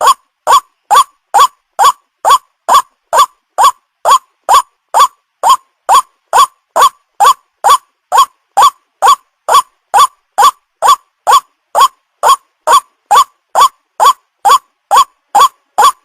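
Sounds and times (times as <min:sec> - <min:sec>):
waterhen call repeated: 0:00.0 - 0:16.0.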